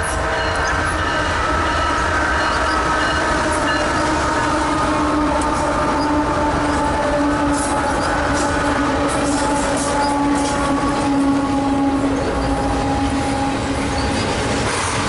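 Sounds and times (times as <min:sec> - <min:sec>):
diesel locomotive engines rumbling: 0:00.0 - 0:15.0
steel wheels on rails: 0:00.0 - 0:15.0.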